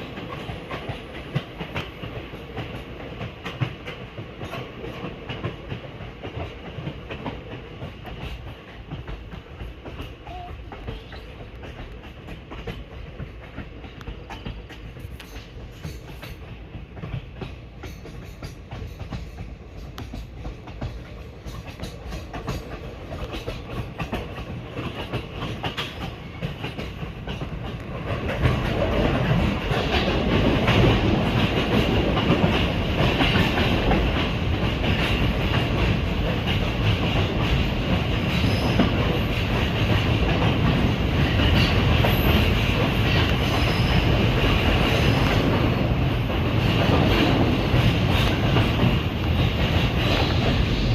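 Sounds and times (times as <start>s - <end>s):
train wheels clattering over rails: 0.0s - 50.9s.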